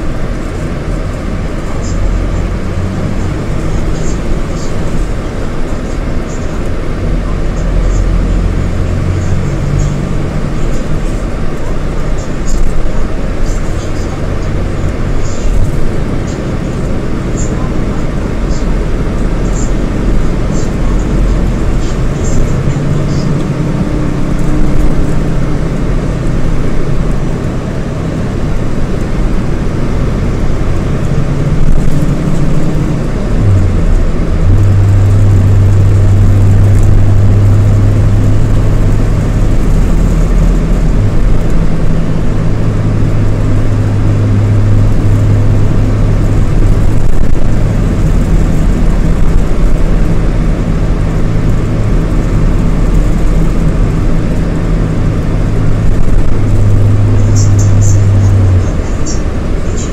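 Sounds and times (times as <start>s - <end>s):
diesel coach engine drone: 0.0s - 59.9s.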